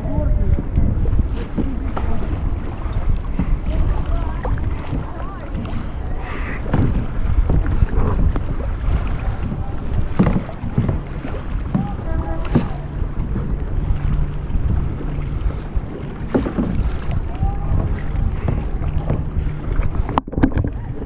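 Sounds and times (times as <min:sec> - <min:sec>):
kayak paddles splashing water: 0:00.0 - 0:21.0
wind buffeting microphone: 0:00.0 - 0:21.0.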